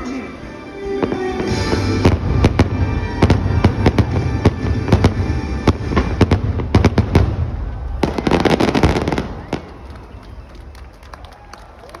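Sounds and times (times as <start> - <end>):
fireworks bursting: 1.0 - 10.8.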